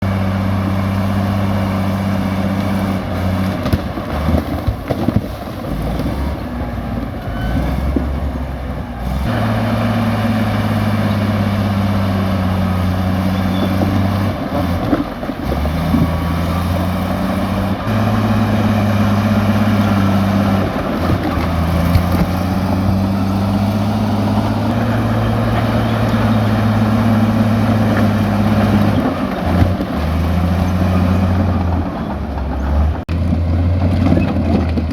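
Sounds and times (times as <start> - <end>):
bulldozer diesel engine under load: 0.0 - 34.9.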